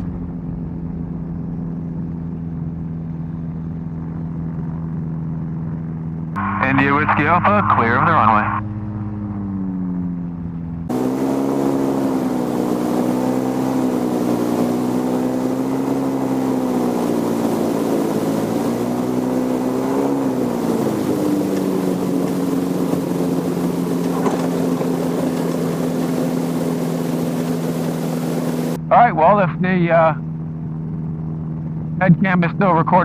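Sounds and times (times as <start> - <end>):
aircraft two-stroke engine running: 0.0 - 33.0.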